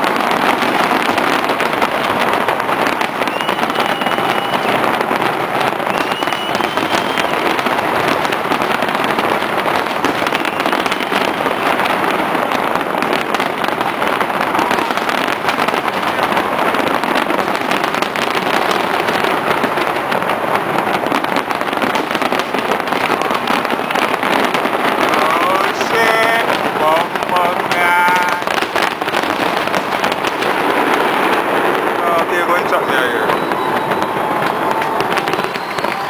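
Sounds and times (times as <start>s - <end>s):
fireworks crackling: 0.0s - 36.0s.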